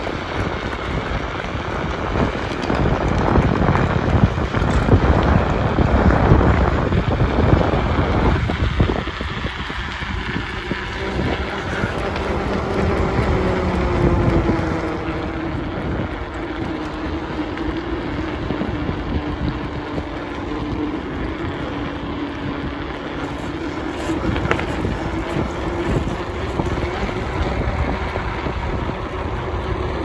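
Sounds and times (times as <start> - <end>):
low hum: 0.0 - 30.0
road rumble: 0.0 - 30.0
wind buffeting microphone: 0.0 - 30.0.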